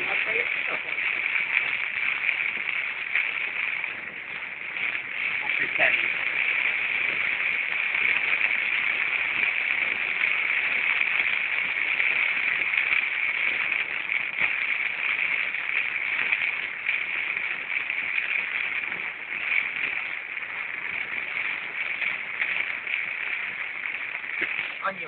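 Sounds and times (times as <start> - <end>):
rain hissing steadily: 0.0 - 25.0.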